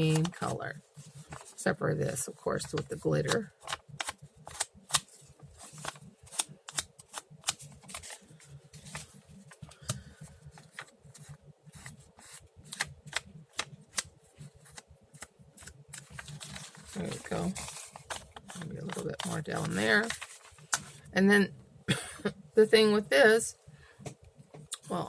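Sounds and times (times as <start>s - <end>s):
paper handling: 0.0s - 1.7s, 2.6s - 21.0s.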